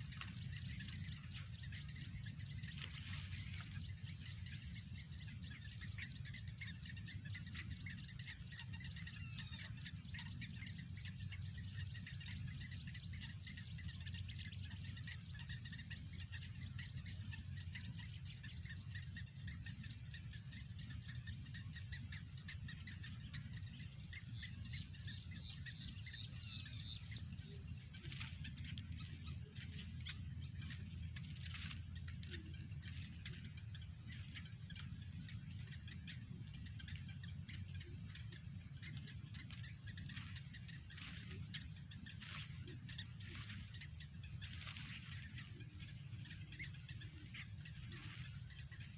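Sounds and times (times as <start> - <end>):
birds chirping: 0.0 - 48.9
low steady rumble: 0.0 - 48.9.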